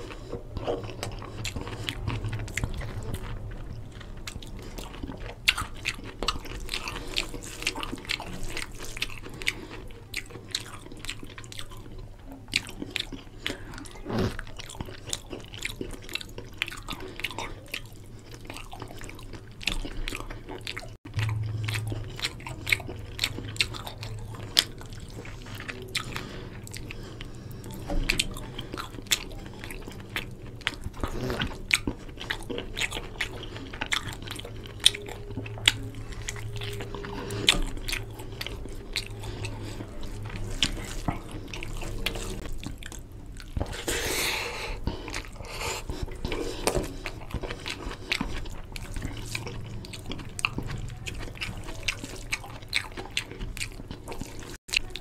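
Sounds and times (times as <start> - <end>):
chewing and wet mouth clicks: 0.0 - 43.9, 44.8 - 55.0.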